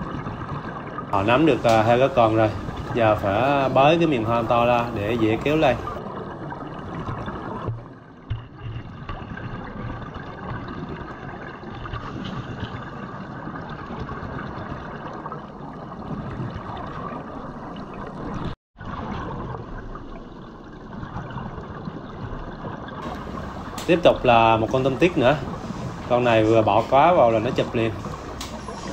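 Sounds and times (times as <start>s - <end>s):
underwater hiss and crackle: 0.0s - 18.6s, 19.2s - 28.9s.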